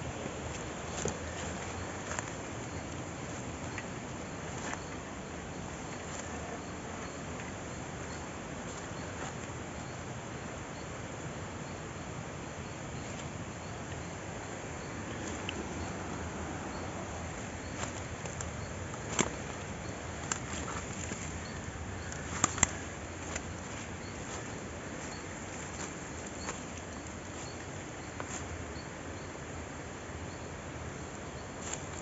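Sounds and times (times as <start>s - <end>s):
constant hiss: 0.0s - 32.0s
insects chirping: 0.0s - 32.0s.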